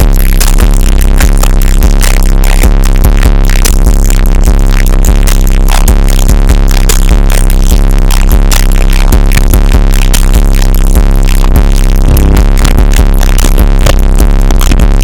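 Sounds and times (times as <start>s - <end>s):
loud electronic bass music: 0.0s - 15.0s.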